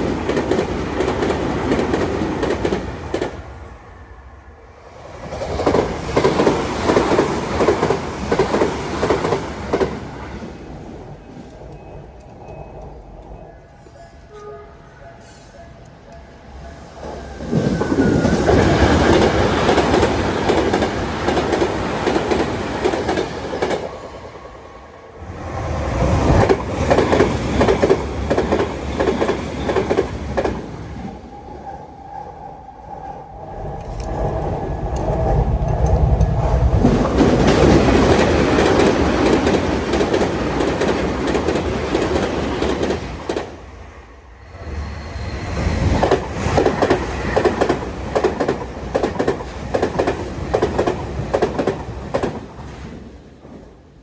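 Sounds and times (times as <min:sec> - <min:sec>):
trains passing at high speed: 0:00.0 - 0:54.0.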